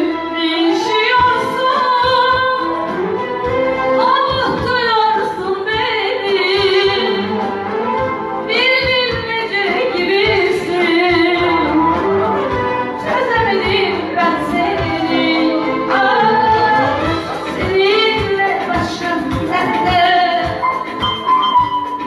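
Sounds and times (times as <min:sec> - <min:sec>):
musical accompaniment: 0:00.0 - 0:22.0.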